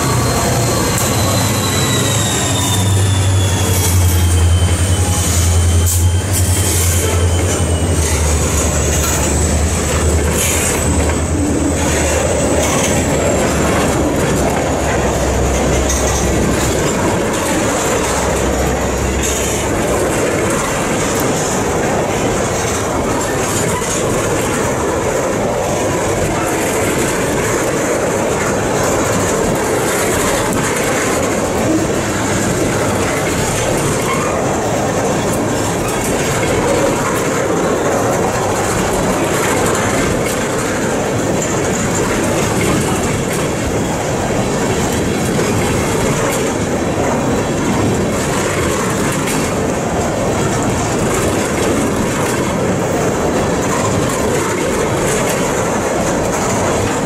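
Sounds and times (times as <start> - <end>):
freight train wheels clattering: 0.0 - 57.0.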